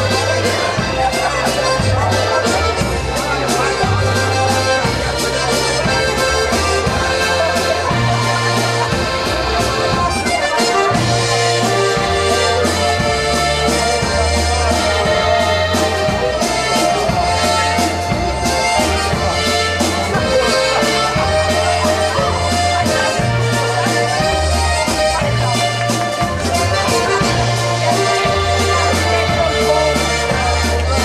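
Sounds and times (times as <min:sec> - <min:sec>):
accordions playing a waltz: 0:00.0 - 0:31.0
low bass notes: 0:00.0 - 0:31.0
steady beat: 0:00.0 - 0:31.0.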